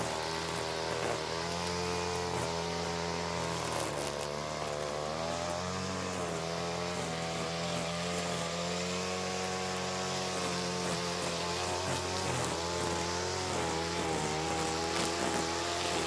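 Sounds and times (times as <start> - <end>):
hedge trimmer running: 0.0 - 16.0.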